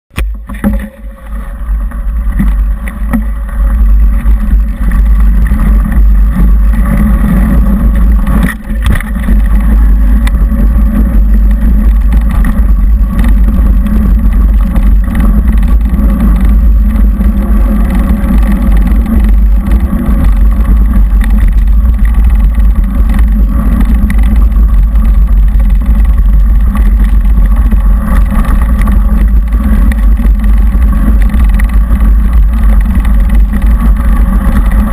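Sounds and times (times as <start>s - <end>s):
wind and tyre rumble: 0.1s - 34.9s.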